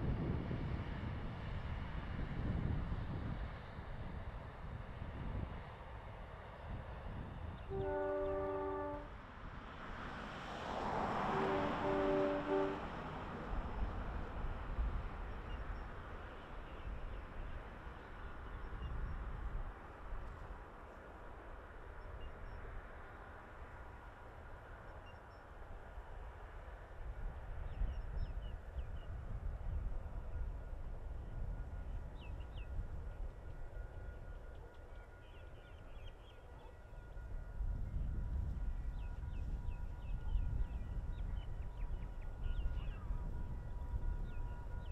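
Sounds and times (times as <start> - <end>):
distant train rumbling past: 0.0 - 44.9.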